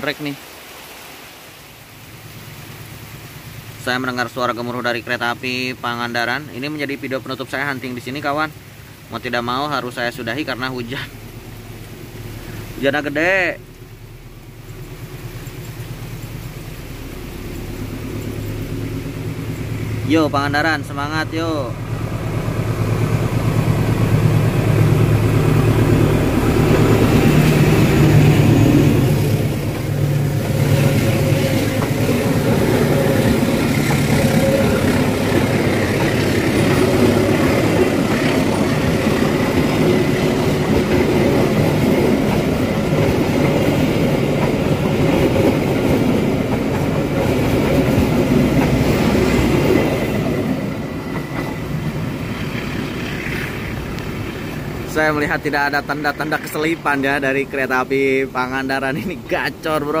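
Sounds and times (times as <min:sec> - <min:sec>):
heavy rain hiss: 0:00.0 - 1:00.0
diesel locomotive engine drone: 0:02.0 - 1:00.0
train wheels rumbling: 0:09.2 - 1:00.0.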